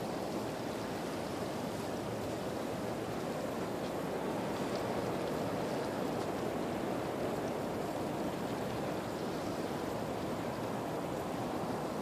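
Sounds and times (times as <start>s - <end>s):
surf washing around pier: 0.0s - 12.0s.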